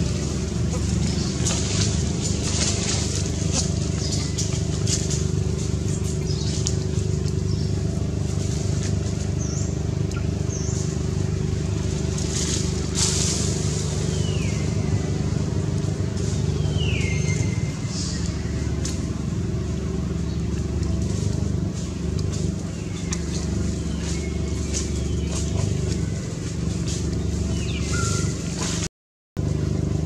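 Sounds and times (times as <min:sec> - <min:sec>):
crackling rustles: 0:00.0 - 0:28.9
low mechanical drone: 0:00.0 - 0:30.0.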